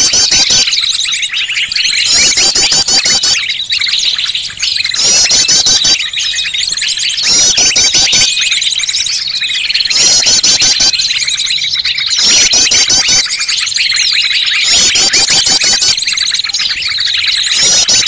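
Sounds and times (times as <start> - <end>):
high bird twittering: 0.0 - 18.0
small birds chirping and trilling: 0.0 - 18.0.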